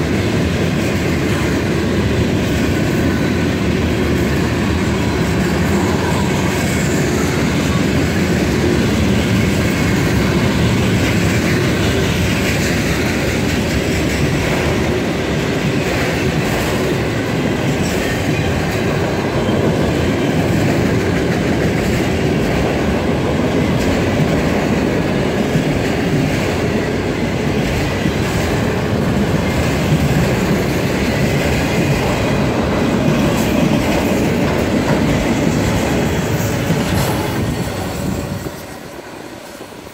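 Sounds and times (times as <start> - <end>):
train wheels clattering over rail joints: 0.0 - 39.6.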